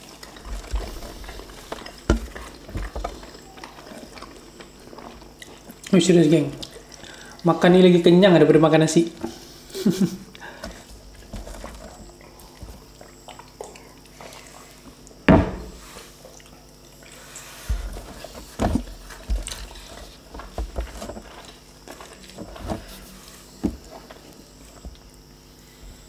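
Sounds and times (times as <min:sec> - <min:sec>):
wet chewing: 0:00.0 - 0:07.5, 0:09.2 - 0:15.3, 0:16.0 - 0:25.4
small clicks and wet ticks: 0:00.0 - 0:07.7, 0:10.3 - 0:15.2, 0:16.1 - 0:22.6, 0:23.8 - 0:25.6.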